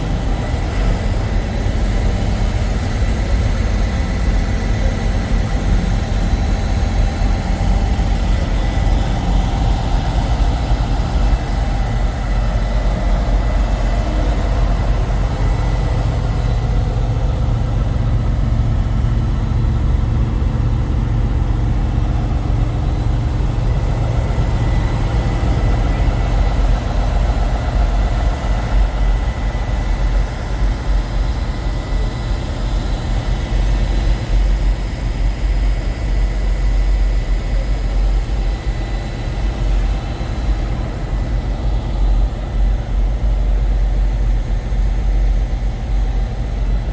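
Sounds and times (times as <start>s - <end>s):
diesel truck engines idling: 0.0s - 46.9s.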